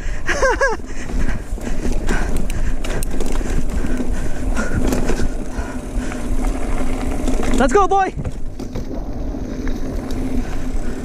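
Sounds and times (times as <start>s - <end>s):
bike tyres on dirt trail: 0.0s - 11.0s
bike rattling clicks: 0.3s - 11.0s.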